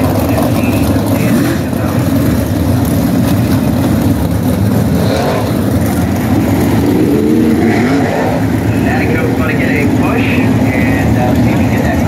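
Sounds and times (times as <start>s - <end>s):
racing car engines roaring: 0.0s - 12.0s.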